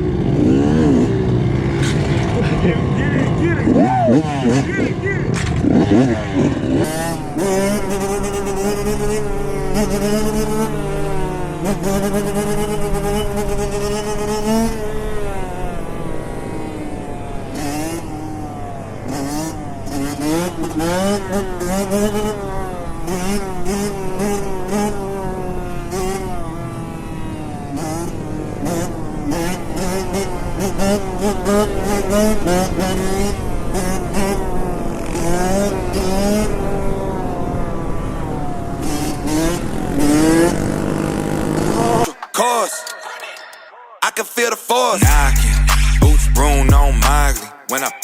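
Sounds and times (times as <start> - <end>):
small motorcycle engine revving: 0.0 - 42.1.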